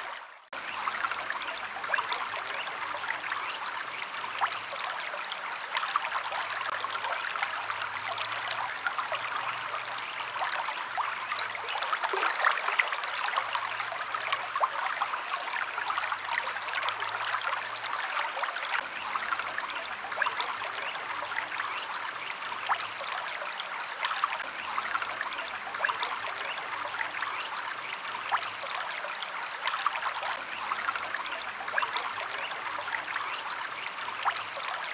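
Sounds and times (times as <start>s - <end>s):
stream water trickling: 0.0s - 34.9s.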